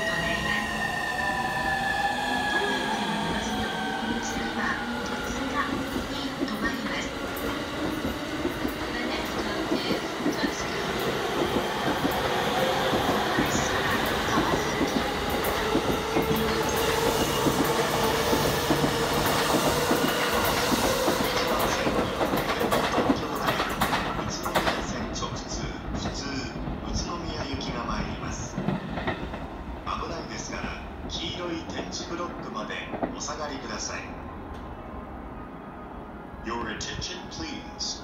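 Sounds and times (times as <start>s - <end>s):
electric train passing: 0.0s - 38.0s.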